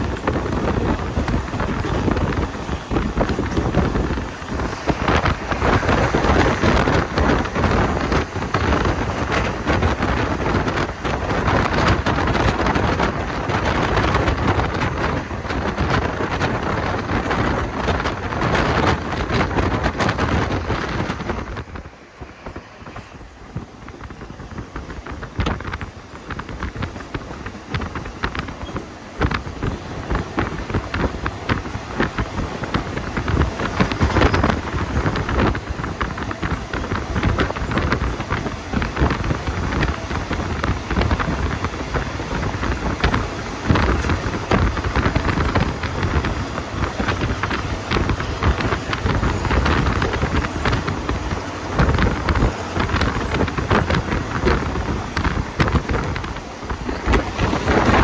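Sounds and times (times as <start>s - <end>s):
train wheels rumbling and rattling: 0.0s - 58.0s
wind noise: 0.0s - 58.0s.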